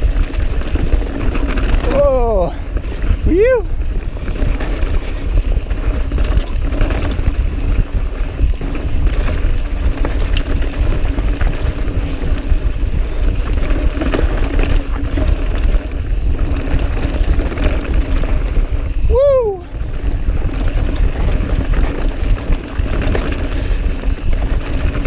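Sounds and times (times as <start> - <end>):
bike clattering over bumps: 0.0 - 25.0
bike tyres over dirt and rock: 0.0 - 25.0
wind rumble on microphone: 0.0 - 25.0.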